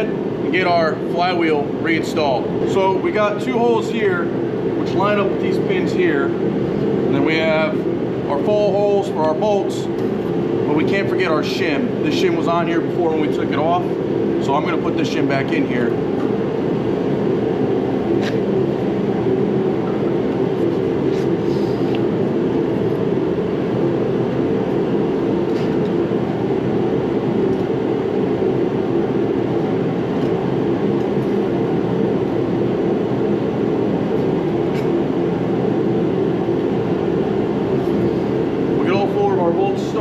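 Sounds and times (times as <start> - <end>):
heater running: 0.0 - 40.0.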